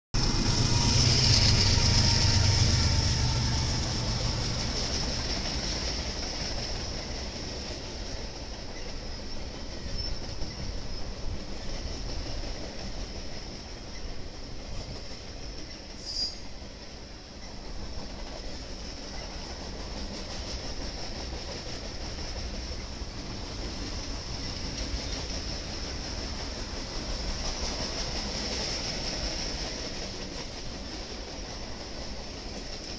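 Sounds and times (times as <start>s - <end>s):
diesel locomotive engine rumble: 0.1s - 32.9s
wheels hissing on rails: 0.2s - 32.9s.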